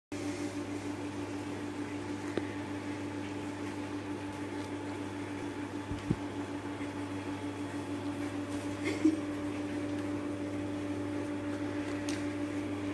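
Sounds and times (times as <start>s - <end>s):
steady mechanical hum: 0.1s - 12.9s.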